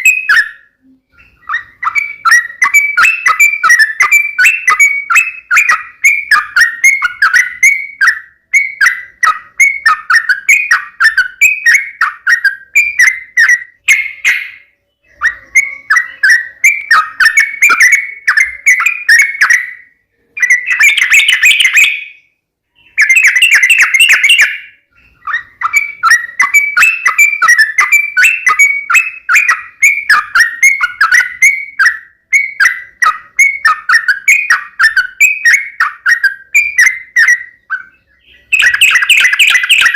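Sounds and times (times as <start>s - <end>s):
bulbul rapid chattering song: 0.0s - 39.9s.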